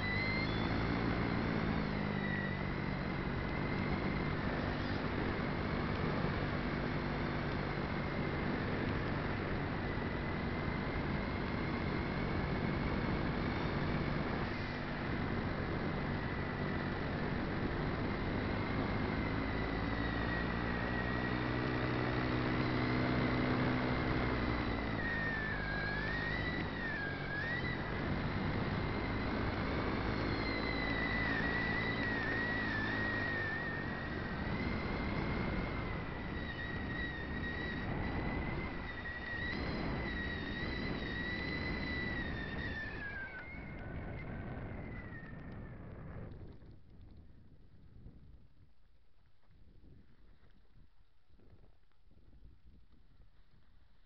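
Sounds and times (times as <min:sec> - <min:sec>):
model aircraft electric motor whining: 0:00.0 - 0:46.6.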